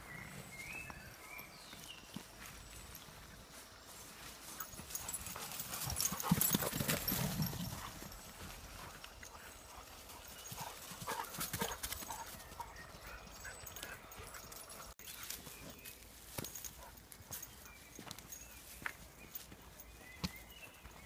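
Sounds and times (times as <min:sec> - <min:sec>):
footsteps on twigs and leaves: 0:00.1 - 0:12.7, 0:13.7 - 0:21.0.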